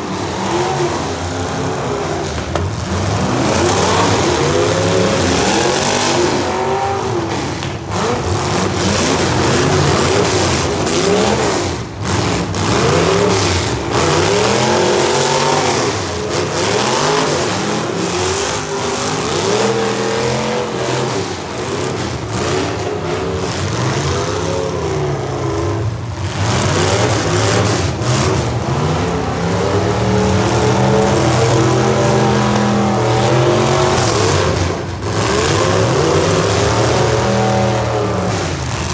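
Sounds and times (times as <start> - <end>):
car engines revving hard: 0.0 - 38.9.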